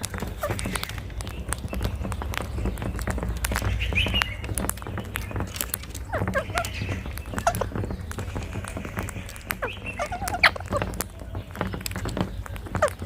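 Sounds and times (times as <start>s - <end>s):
parakeets calling: 0.0s - 13.0s
sharp clicks: 0.0s - 13.0s
steady low rumble: 0.0s - 13.0s.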